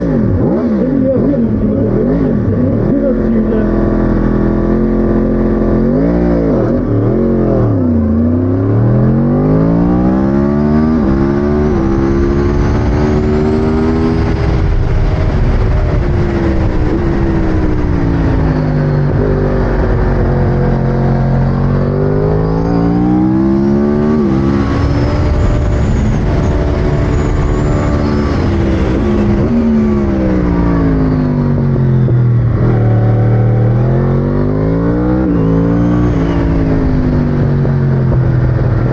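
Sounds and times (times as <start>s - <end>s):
motorcycle engine accelerating: 0.0s - 38.9s
wind rushing over microphone: 4.0s - 38.9s.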